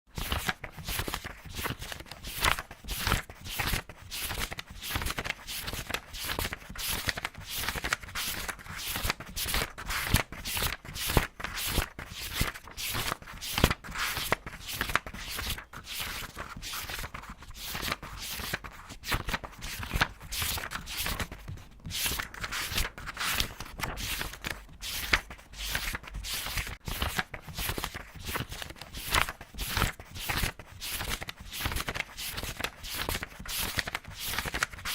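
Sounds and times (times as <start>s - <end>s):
book pages turning quickly: 0.2s - 34.9s.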